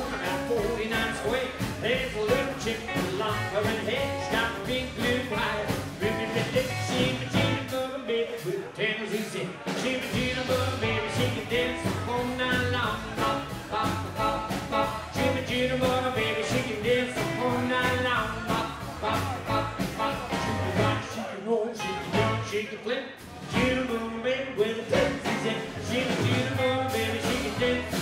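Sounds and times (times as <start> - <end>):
rockabilly band playing: 0.0 - 28.0.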